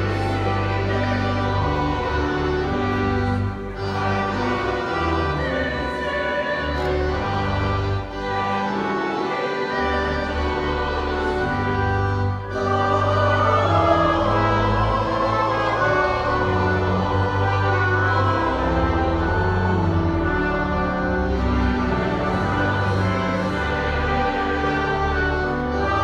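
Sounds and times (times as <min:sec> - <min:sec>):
choir singing: 0:00.0 - 0:26.0
orchestra playing: 0:00.0 - 0:26.0.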